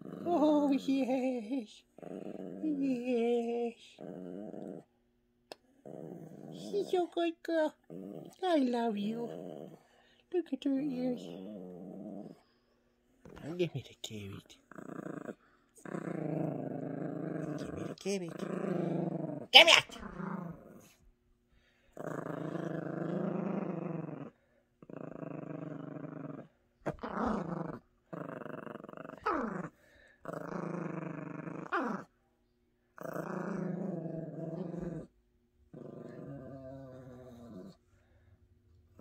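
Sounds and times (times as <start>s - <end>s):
small dog growling: 0.0s - 4.9s, 5.5s - 21.0s, 21.6s - 32.2s, 32.9s - 39.0s.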